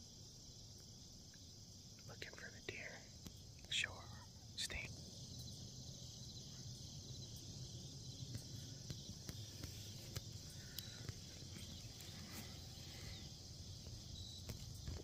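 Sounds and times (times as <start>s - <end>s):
crickets and insects chorus: 0.0s - 15.0s
low background rumble: 0.2s - 14.9s.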